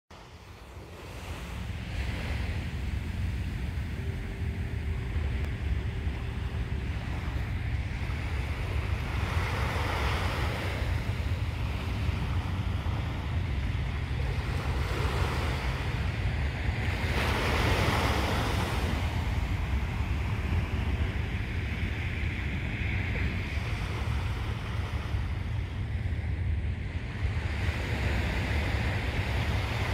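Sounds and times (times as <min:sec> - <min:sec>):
sea waves washing ashore: 0:00.1 - 0:29.9
wind rumble on microphone: 0:00.1 - 0:29.9.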